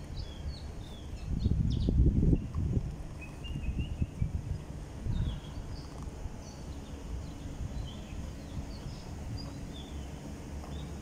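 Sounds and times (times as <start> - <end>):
low city rumble: 0.0 - 11.0
small birds chirping: 0.0 - 11.0.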